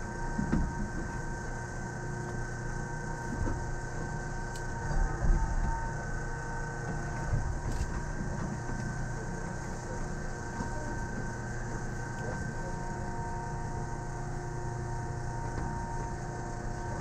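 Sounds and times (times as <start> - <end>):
electrical hum and whine: 0.0 - 17.0
train rumbling: 3.2 - 17.0.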